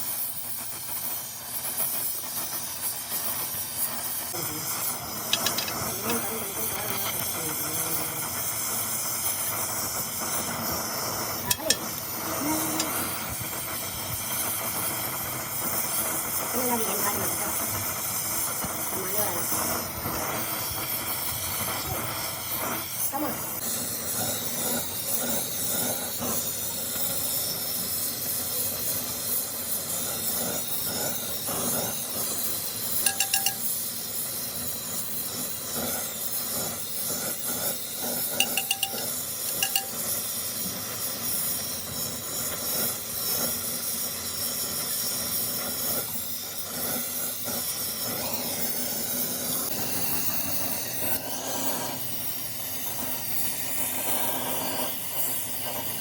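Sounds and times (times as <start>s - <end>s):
spraying hiss: 0.0s - 56.0s.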